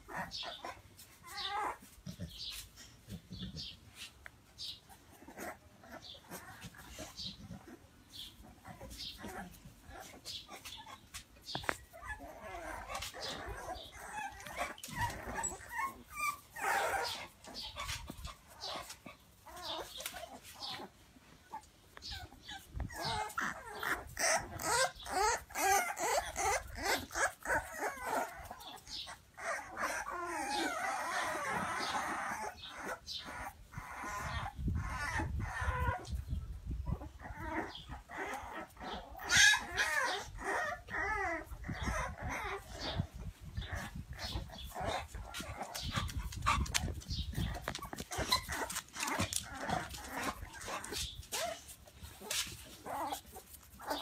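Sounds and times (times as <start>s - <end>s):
puppies whimpering and squeaking: 0.0s - 54.0s.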